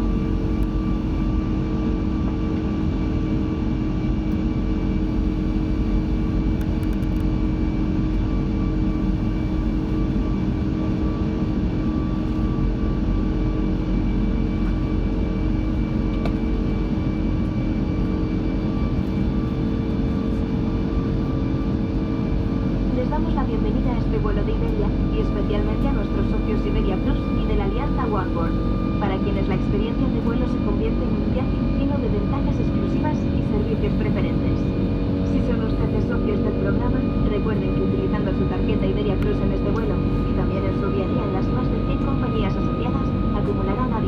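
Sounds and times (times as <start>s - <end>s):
airplane cabin engine rush: 0.0s - 44.0s.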